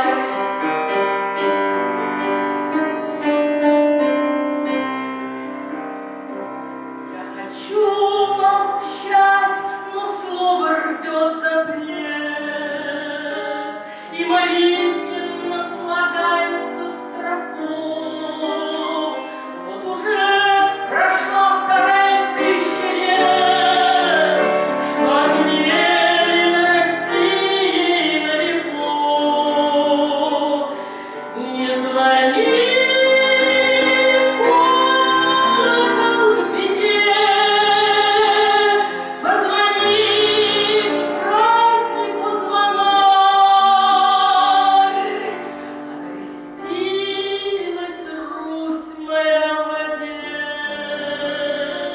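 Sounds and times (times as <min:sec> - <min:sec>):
woman singing with vibrato: 0:00.0 - 0:00.6, 0:07.1 - 0:51.9.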